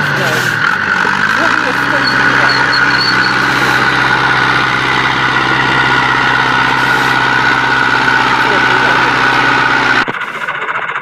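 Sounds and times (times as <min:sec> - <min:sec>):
tractor churning through mud: 0:00.0 - 0:11.0
tractor diesel engine running: 0:00.0 - 0:11.0.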